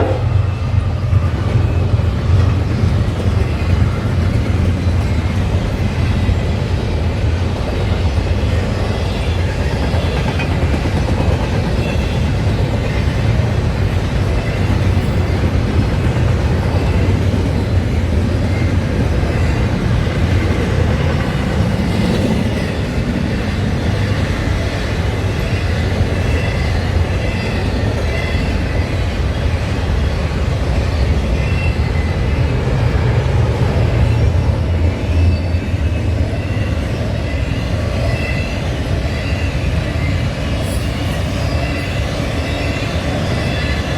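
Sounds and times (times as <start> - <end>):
train wheels rumbling over rails: 0.0 - 43.9.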